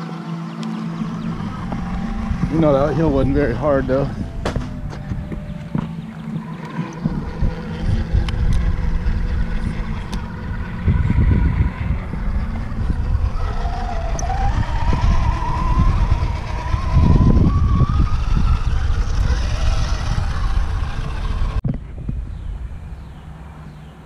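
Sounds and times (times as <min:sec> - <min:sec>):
electric motor whine: 0:00.0 - 0:21.6
heavy low rumble: 0:00.0 - 0:24.0.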